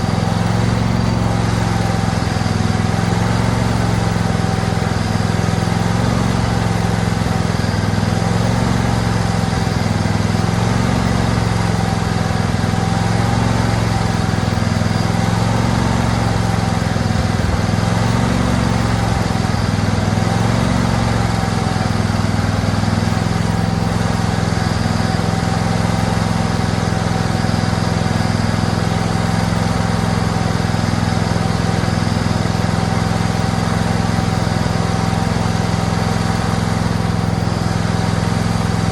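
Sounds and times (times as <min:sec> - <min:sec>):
riding mower engine running: 0:00.0 - 0:38.9.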